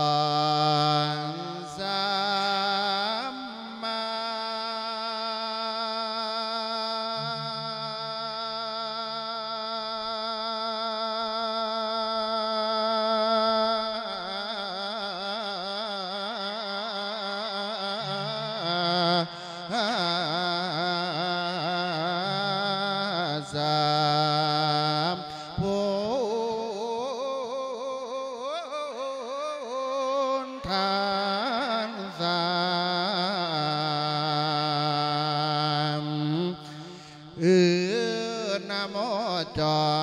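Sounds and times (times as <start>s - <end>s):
man chanting melodically: 0.0s - 40.0s.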